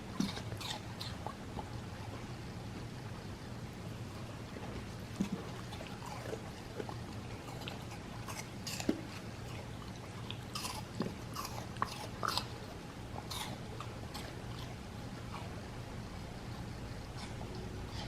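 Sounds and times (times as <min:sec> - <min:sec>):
puppy chewing: 0:00.0 - 0:18.0
steady low hum: 0:00.0 - 0:18.0.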